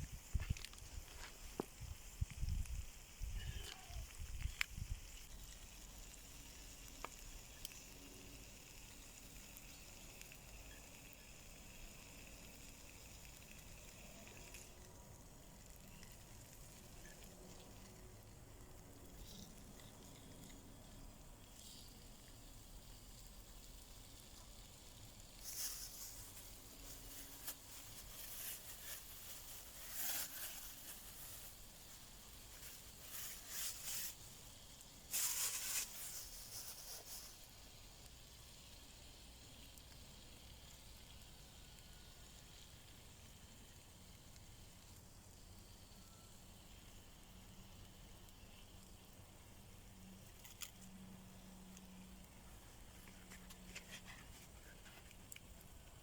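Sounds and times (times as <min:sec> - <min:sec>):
campfire sizzling and hissing: 0:00.0 - 0:56.0
faint steady background noise: 0:00.0 - 0:56.0.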